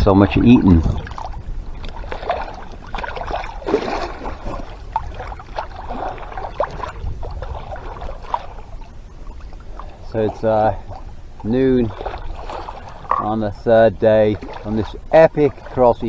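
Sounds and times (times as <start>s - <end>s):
low steady rumble: 0.0s - 16.0s
water splashing against hull: 0.0s - 16.0s.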